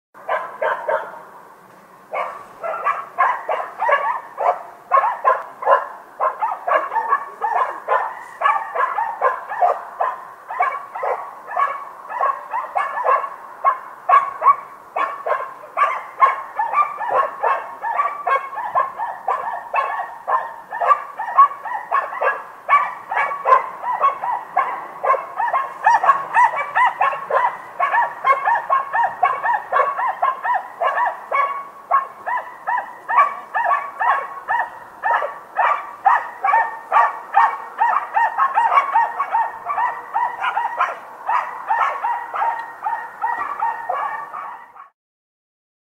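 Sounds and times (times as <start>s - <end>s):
distant dogs barking: 0.2s - 44.9s.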